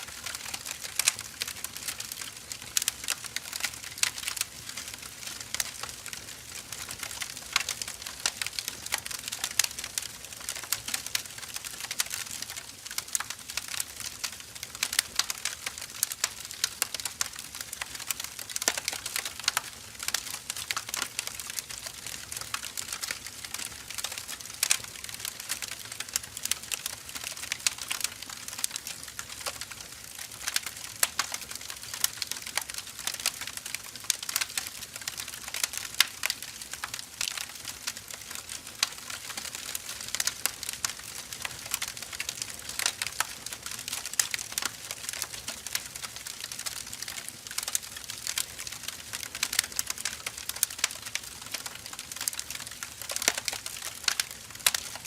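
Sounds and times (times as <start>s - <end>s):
firewood crackling and popping: 0.0s - 55.0s.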